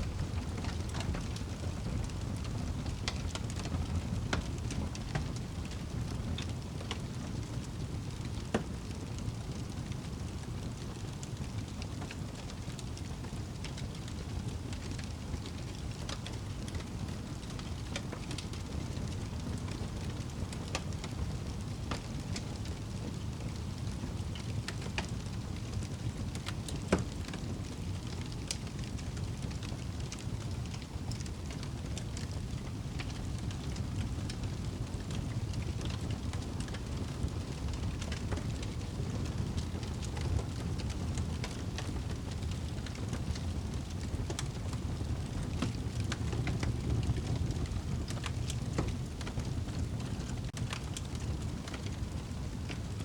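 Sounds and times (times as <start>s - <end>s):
wood fire burning: 0.0s - 53.0s.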